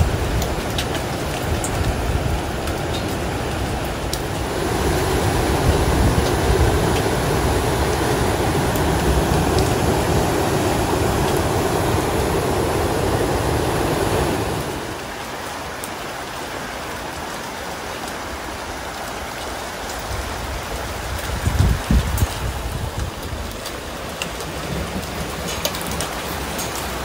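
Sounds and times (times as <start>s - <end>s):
small stream rapid rushing: 0.0s - 27.0s
waterfall rushing: 0.0s - 27.0s.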